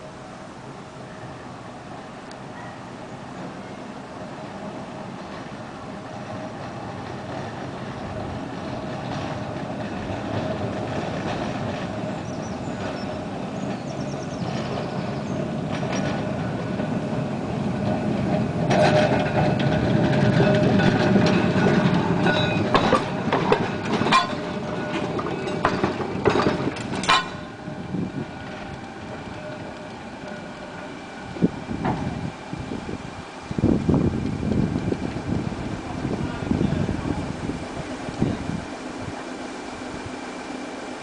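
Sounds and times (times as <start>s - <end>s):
tram wheels rumbling on rails: 0.0s - 41.0s
wheels clacking over rail joints: 0.9s - 41.0s.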